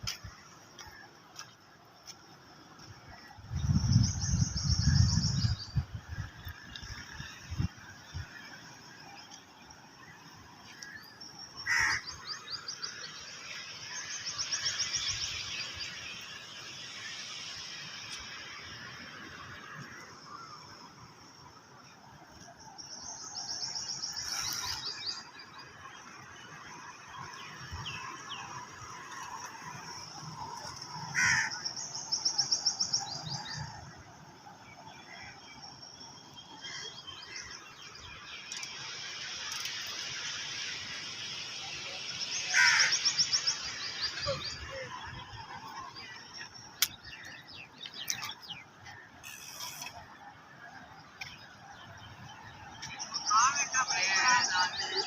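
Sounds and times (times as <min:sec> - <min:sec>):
small birds chattering trills: 0:00.0 - 0:18.7, 0:19.9 - 0:55.0
steady outdoor hiss: 0:00.0 - 0:55.0.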